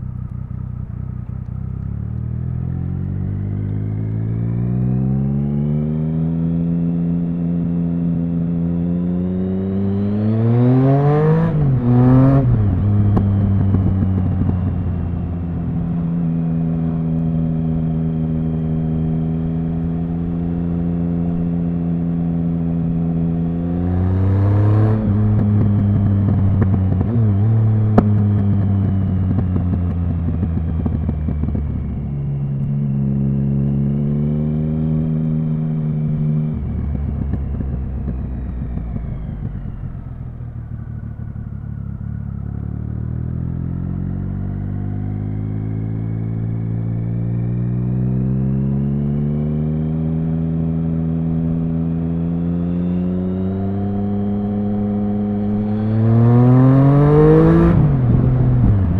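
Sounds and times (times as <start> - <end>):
motorcycle engine and exhaust: 0.0 - 58.9.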